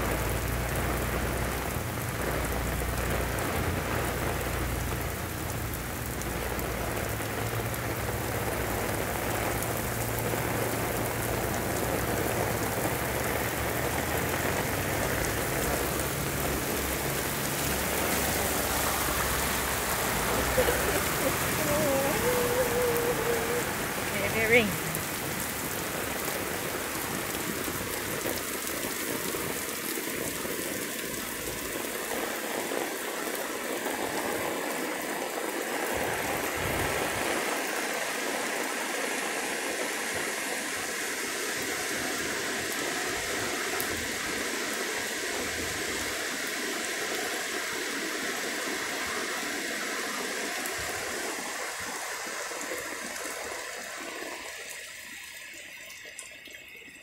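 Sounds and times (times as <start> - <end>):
heavy rain pouring: 0.0 - 57.0
stream rushing in flood: 0.0 - 57.0.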